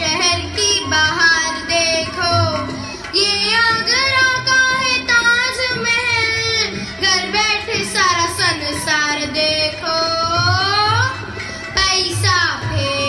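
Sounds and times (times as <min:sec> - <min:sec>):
high singing voice: 0:00.0 - 0:13.0.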